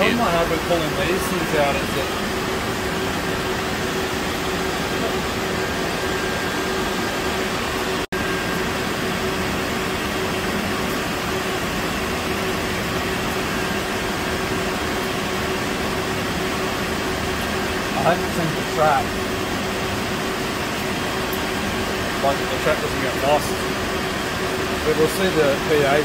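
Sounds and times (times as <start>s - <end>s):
constant hum tone: 0.0s - 26.0s
server cooling fans whirring: 0.0s - 26.0s.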